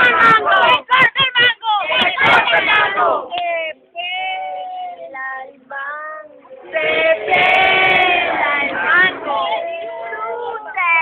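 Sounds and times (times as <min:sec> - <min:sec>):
young voices singing: 0:00.0 - 0:01.0, 0:01.8 - 0:11.0.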